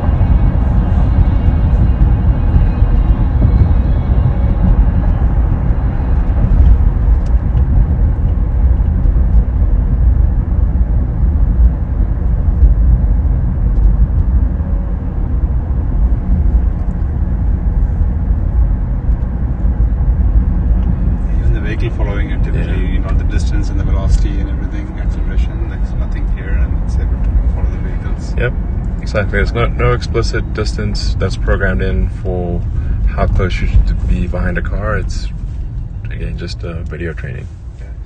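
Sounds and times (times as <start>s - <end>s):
road and tyre rumble in car cabin: 0.0s - 38.0s.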